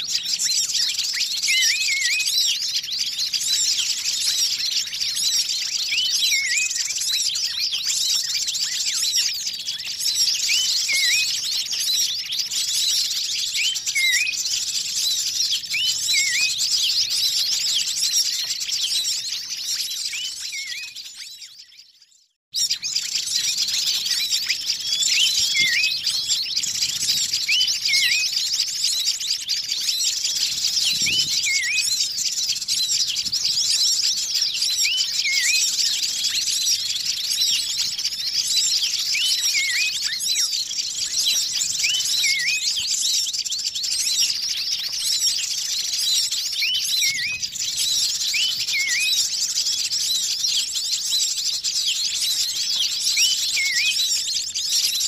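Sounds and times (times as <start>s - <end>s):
birds chirping and tweeting: 0.0s - 55.0s.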